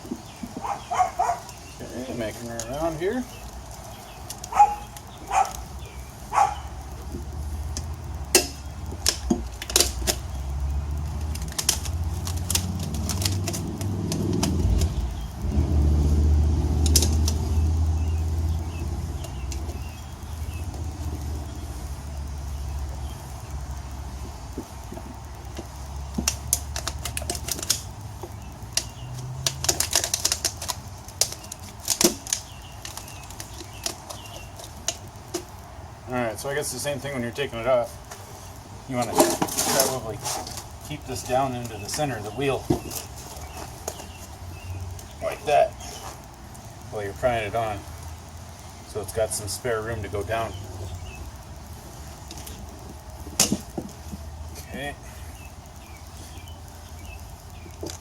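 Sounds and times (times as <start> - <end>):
tire irons clinking on rim: 0.0 - 58.0.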